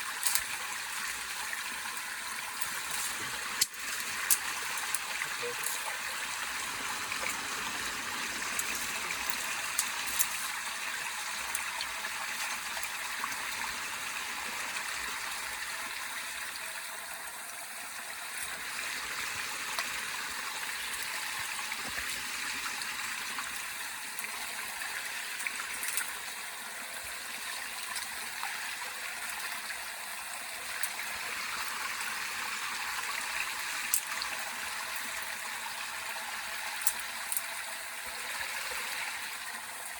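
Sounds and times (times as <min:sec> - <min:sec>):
water running: 0:00.0 - 0:39.9.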